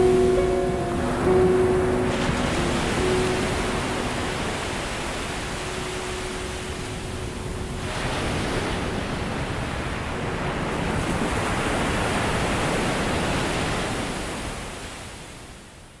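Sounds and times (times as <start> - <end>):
ocean surf washing ashore: 0.0 - 16.0.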